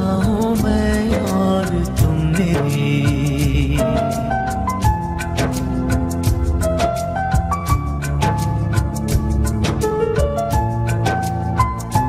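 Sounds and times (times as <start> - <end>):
instrumental film song melody: 0.0 - 12.0
percussion beat: 0.0 - 12.0.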